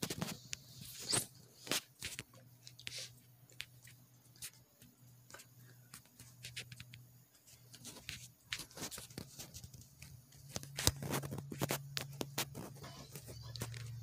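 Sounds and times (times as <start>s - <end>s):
small clicks and rustling: 0.0s - 14.0s.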